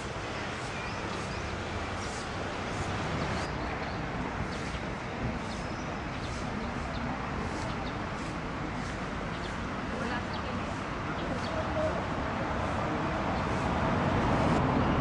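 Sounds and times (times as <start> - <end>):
distant traffic rush: 0.0 - 15.0.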